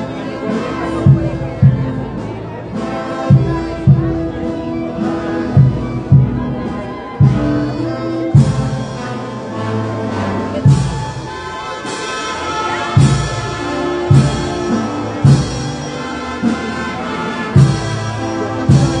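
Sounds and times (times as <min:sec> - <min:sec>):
band playing slow march: 0:00.0 - 0:19.0.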